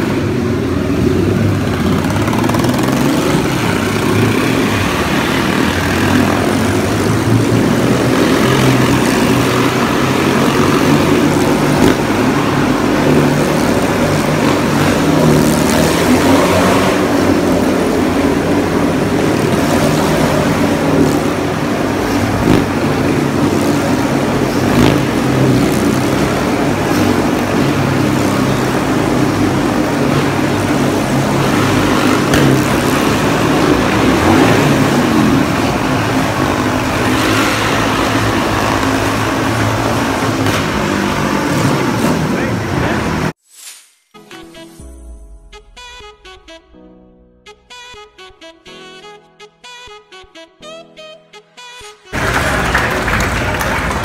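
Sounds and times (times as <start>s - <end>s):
motorcycle engines circling: 0.0s - 43.4s, 52.1s - 54.0s.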